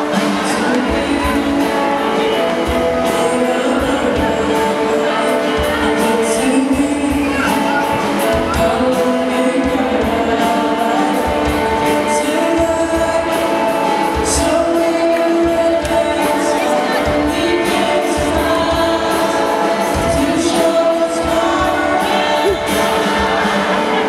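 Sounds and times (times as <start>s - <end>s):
group singing: 0.0s - 24.0s
man singing into microphone: 0.0s - 24.0s.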